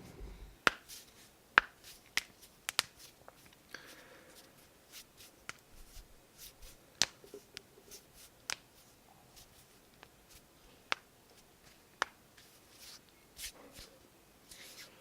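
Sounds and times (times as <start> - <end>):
hands rustling: 0.0 - 15.0.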